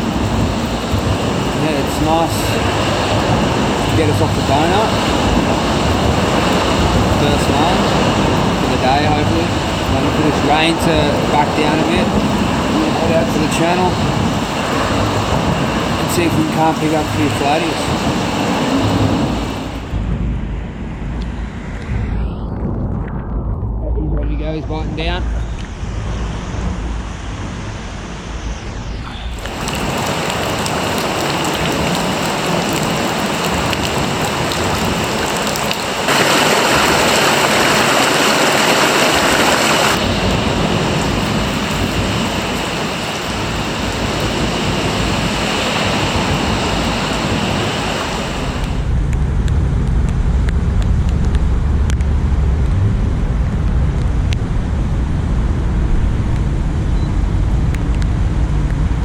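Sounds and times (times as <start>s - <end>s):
low rumble: 0.0s - 37.6s, 39.9s - 59.0s
heavy rain: 0.0s - 59.0s
wind noise: 0.0s - 59.0s.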